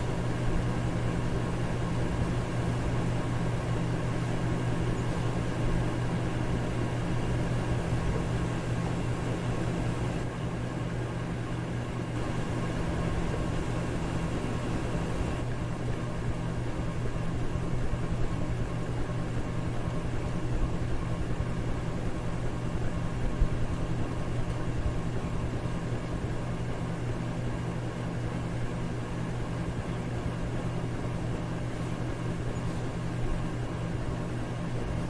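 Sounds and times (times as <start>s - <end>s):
electric fan running: 0.0s - 35.0s.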